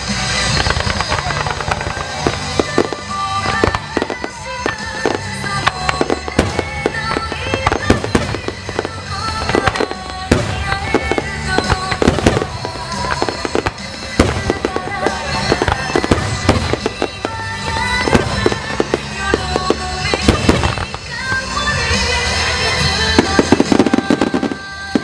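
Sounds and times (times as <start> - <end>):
fireworks bursts and crackles: 0.0 - 25.0
music playing: 0.0 - 25.0.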